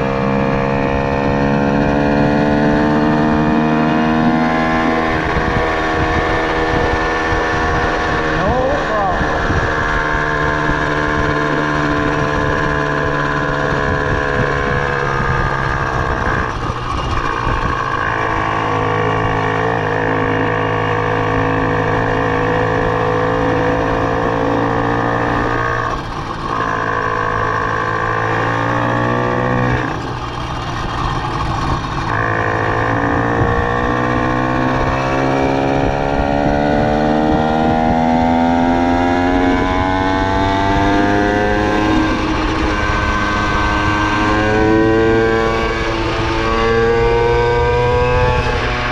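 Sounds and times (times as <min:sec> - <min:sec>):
two-stroke engine revving: 0:00.0 - 0:48.9.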